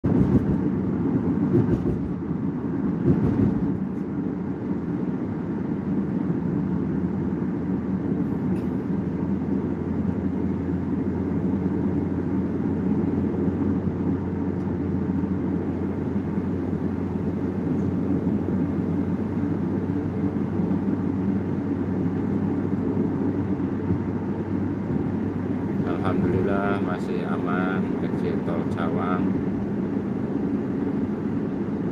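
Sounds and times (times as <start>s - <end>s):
car interior road noise: 0.0s - 31.9s.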